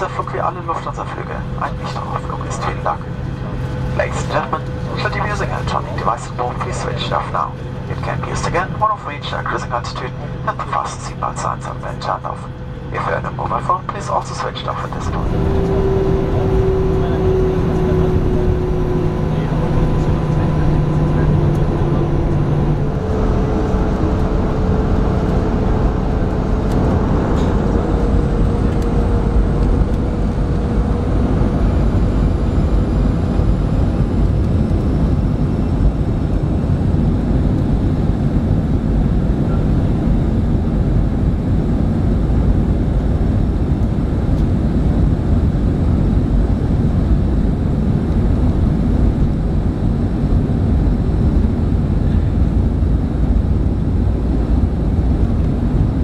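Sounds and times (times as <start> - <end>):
aircraft engines deep rumble: 0.0 - 56.0
faint engine whine: 0.0 - 56.0.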